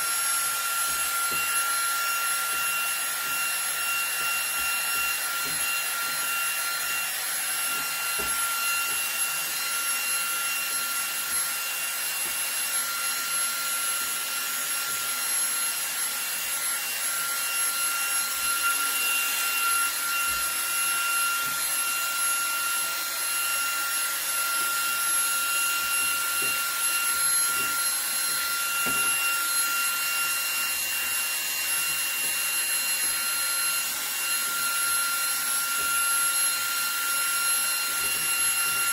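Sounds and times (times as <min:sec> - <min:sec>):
handheld vacuum whining: 0:00.0 - 0:38.9.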